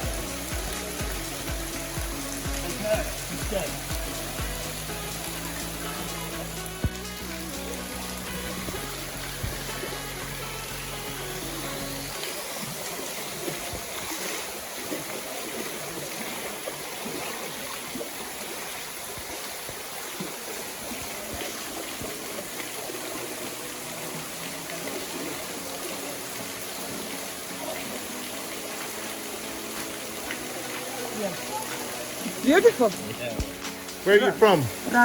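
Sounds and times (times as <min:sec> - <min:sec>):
water splashing and trickling: 0:00.0 - 0:35.0
waterfall rushing: 0:00.0 - 0:35.0.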